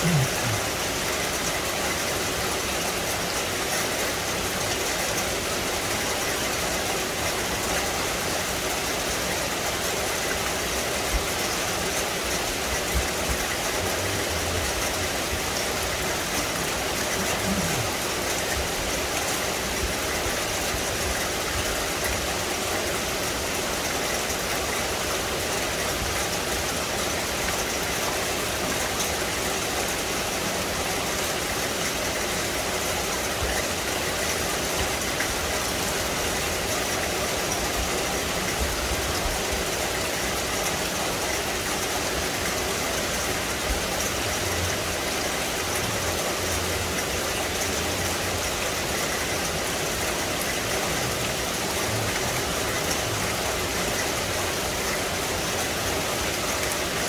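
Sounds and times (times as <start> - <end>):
rain falling on foliage: 0.0 - 57.0.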